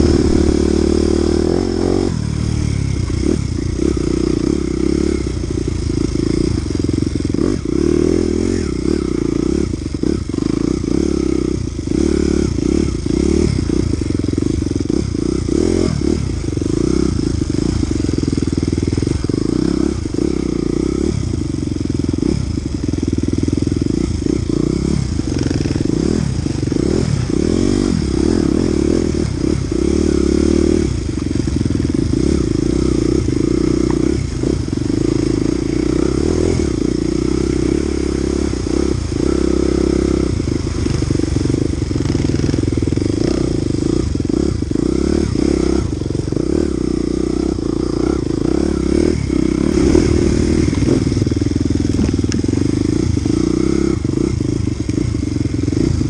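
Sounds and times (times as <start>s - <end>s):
dirt bike engine: 0.0s - 56.0s.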